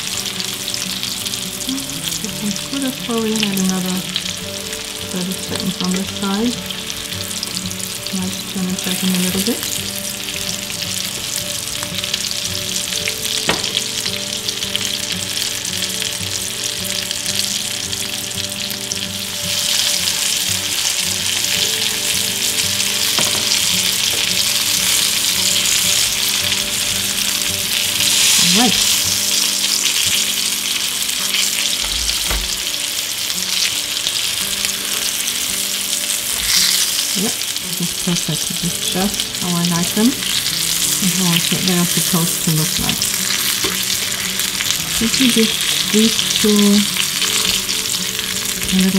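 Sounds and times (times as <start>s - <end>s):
meat sizzling in oil: 0.0s - 48.9s.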